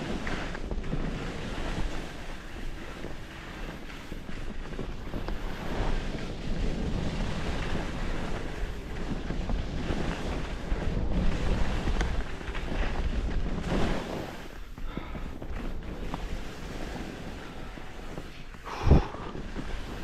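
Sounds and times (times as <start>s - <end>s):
skis sliding on snow: 0.0s - 20.0s
wind buffeting microphone: 0.0s - 20.0s.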